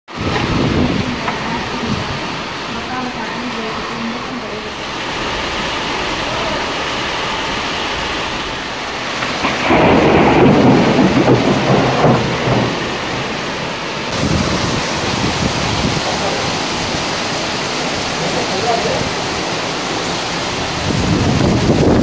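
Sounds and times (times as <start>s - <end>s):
rolling thunder rumble: 0.1s - 22.0s
steady rain: 0.1s - 22.0s.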